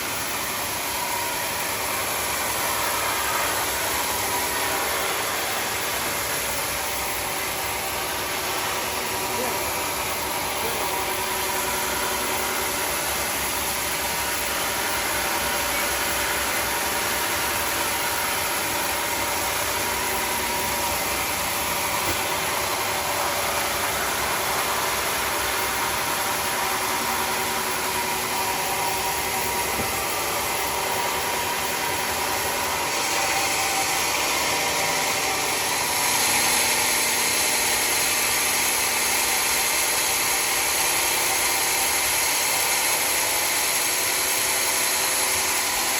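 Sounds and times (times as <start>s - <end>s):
sawmill running: 0.0s - 45.9s.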